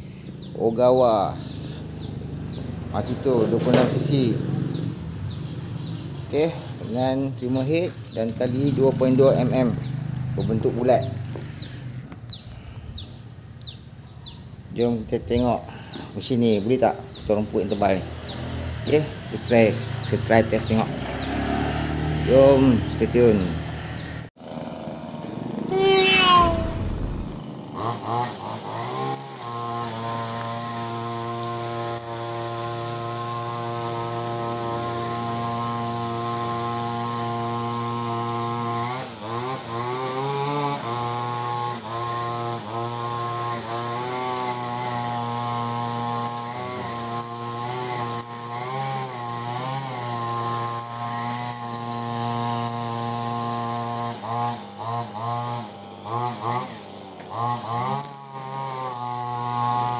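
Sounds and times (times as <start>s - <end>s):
brush cutter engine running: 0.3s - 12.7s, 17.2s - 59.9s.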